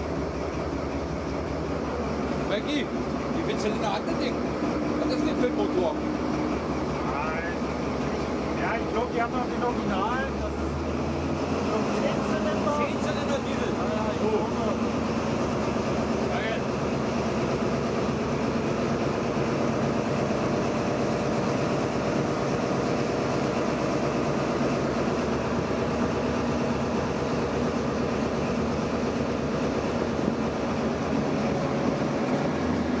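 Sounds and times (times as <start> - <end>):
diesel locomotive engine: 0.0 - 33.0.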